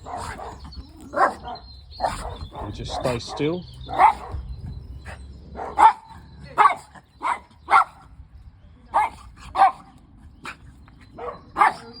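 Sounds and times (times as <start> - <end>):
dogs barking: 0.0 - 8.1, 8.9 - 12.0.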